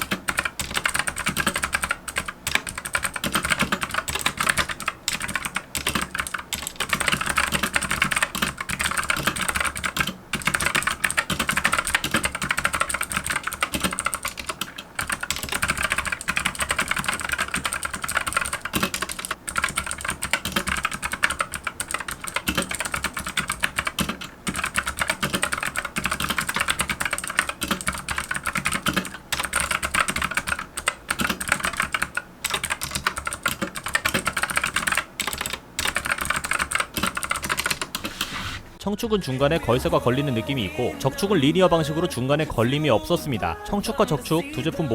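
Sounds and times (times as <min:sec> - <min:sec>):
mechanical keyboard typing: 0:00.0 - 0:38.5.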